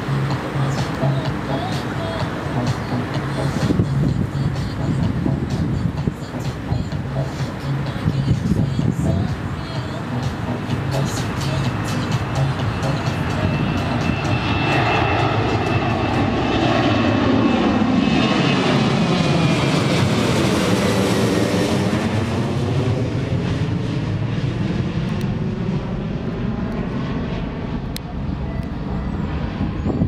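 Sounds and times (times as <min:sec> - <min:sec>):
jet airliner passing overhead: 0:00.0 - 0:30.0.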